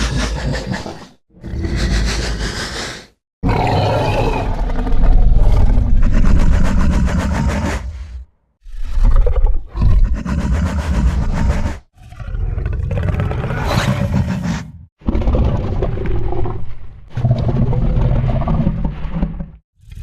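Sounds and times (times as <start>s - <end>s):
dinosaur creature roars: 0.0s - 16.6s.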